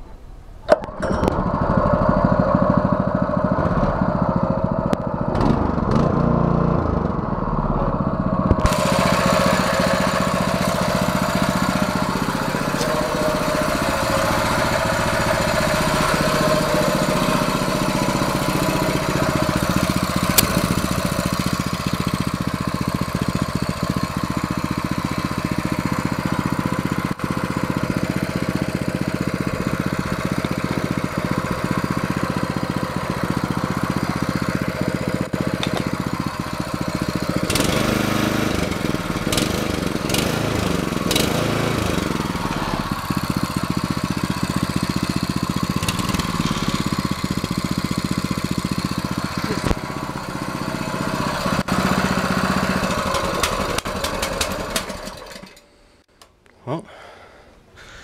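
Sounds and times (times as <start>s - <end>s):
small engine running steadily: 0.7s - 56.0s.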